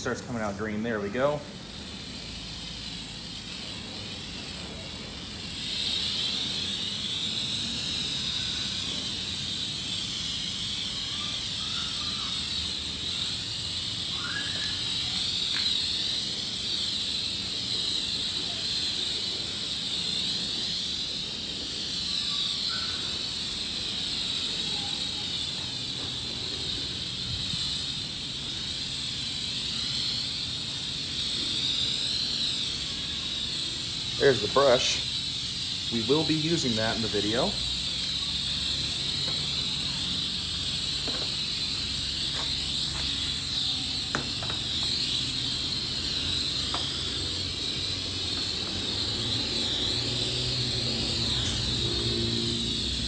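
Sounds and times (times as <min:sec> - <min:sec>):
high-pressure water spray hissing: 0:00.0 - 0:53.0.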